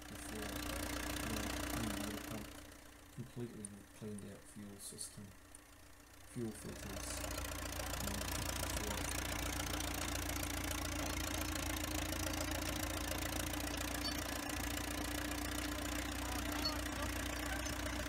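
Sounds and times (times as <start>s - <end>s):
crawler tractor engine running: 0.0s - 18.0s.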